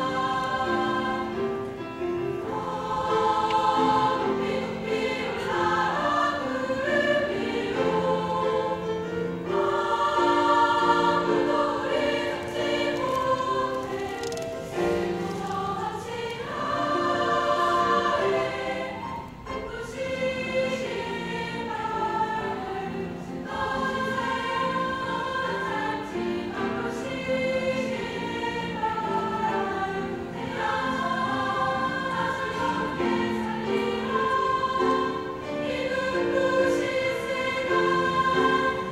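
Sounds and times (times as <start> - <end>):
girls' choir singing: 0.0 - 38.9.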